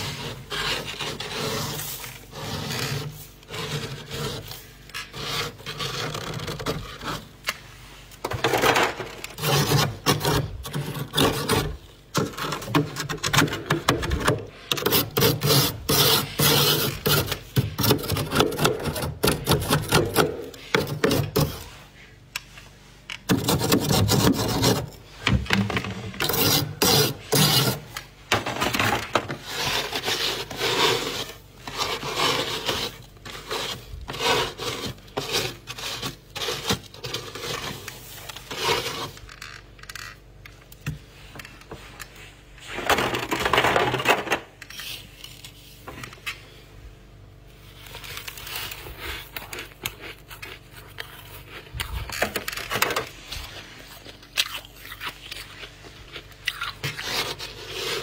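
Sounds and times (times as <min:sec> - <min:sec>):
freezer frost being scraped: 0:00.0 - 0:07.5, 0:08.4 - 0:22.3, 0:23.2 - 0:25.2, 0:26.1 - 0:39.3, 0:47.6 - 0:58.0.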